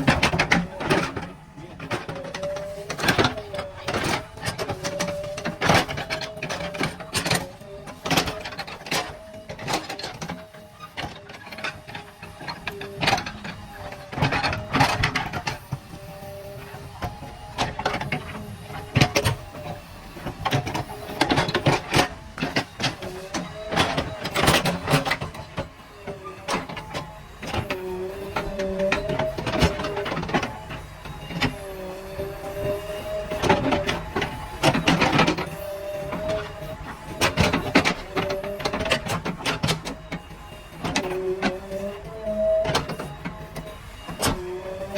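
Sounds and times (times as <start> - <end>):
backhoe engine under load: 0.0 - 44.9.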